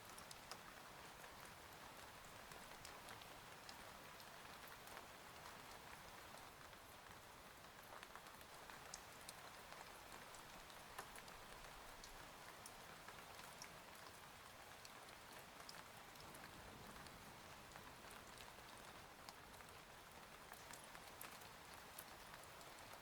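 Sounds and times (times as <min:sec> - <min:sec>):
faint steady rain: 0:00.0 - 0:23.0.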